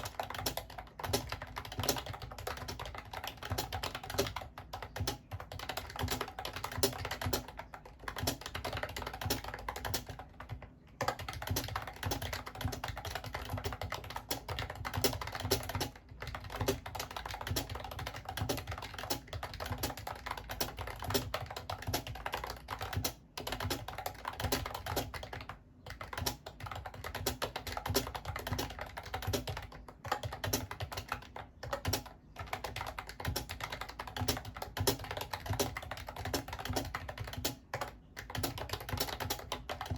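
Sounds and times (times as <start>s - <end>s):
fast keyboard typing clicks: 0.0s - 39.9s.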